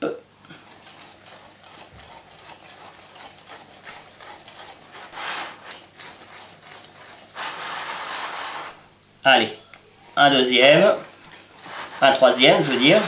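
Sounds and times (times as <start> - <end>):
whisk scraping glass bowl: 0.5 - 8.9, 9.9 - 13.0.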